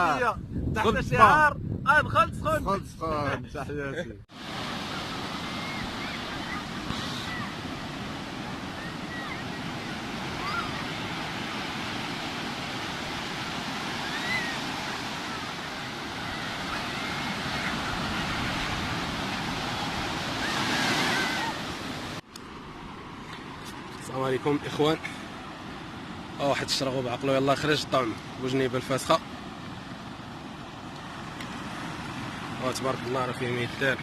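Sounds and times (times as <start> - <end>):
sea surf washing on shore: 4.3 - 34.0.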